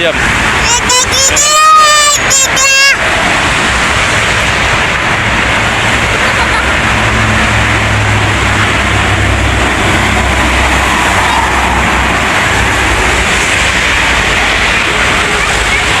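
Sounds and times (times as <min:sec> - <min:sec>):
tyre and road noise: 0:00.0 - 0:16.0
vehicle engine drone: 0:00.0 - 0:16.0.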